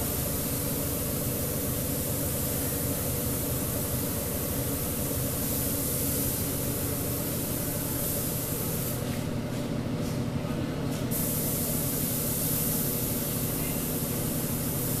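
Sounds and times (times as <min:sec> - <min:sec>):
paint spray gun hissing: 0:00.0 - 0:09.1, 0:11.1 - 0:15.0.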